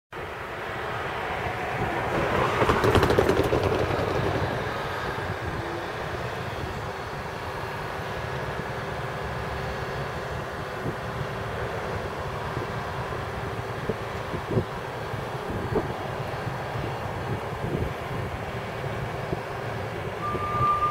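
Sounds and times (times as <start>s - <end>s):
diesel locomotive engine droning: 0.1s - 20.9s.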